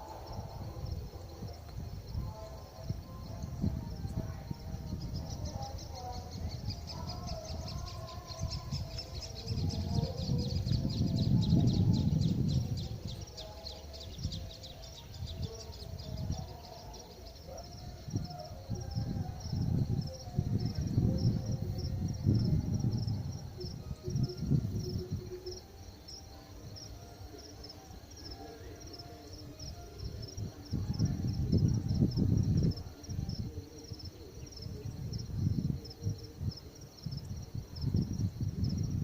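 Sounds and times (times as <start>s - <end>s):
wind buffeting microphone: 0.0s - 27.4s, 29.0s - 39.0s
insects chirping: 0.0s - 39.0s.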